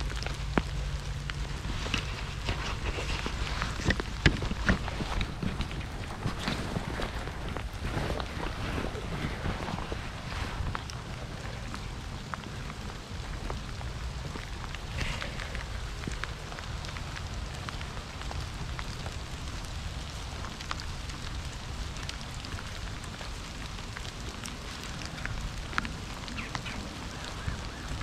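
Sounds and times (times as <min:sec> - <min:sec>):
raindrops tapping: 0:00.0 - 0:28.0
steady low rumble: 0:00.0 - 0:28.0.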